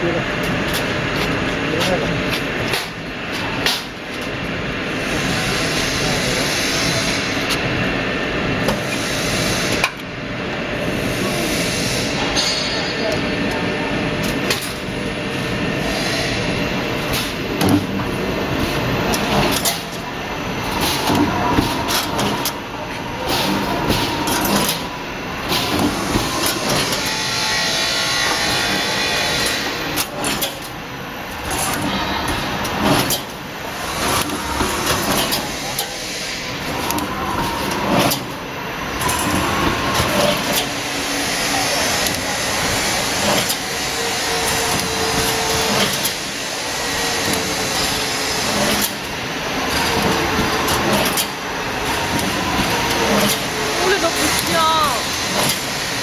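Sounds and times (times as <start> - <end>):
welding machine running: 0.0 - 56.0.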